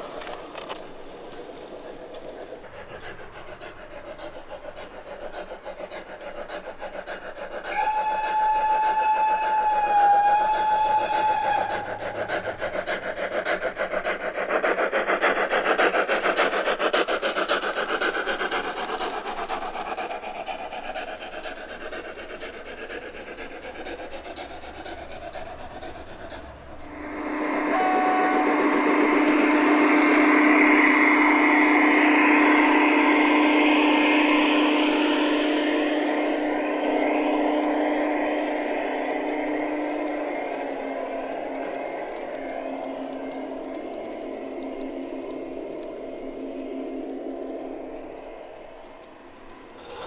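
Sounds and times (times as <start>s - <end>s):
model diesel train humming: 0.0s - 50.0s
model steam train rattling: 0.0s - 50.0s.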